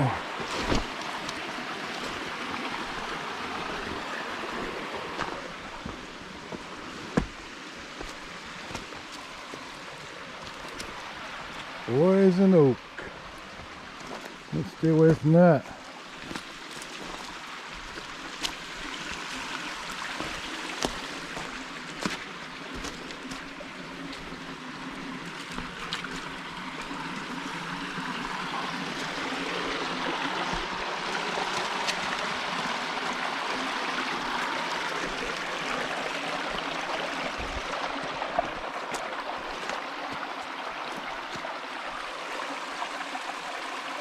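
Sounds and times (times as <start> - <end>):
flowing water: 0.0 - 44.0.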